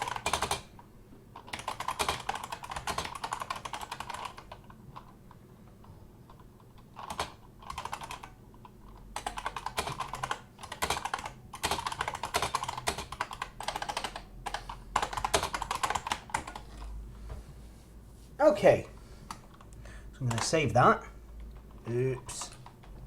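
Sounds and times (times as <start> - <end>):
keyboard typing: 0.0 - 17.0, 18.8 - 23.0.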